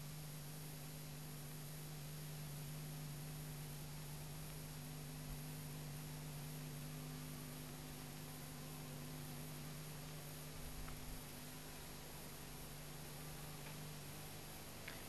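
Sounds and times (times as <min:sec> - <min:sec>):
low electrical hum: 0:00.0 - 0:15.0
tape hiss: 0:00.0 - 0:15.0.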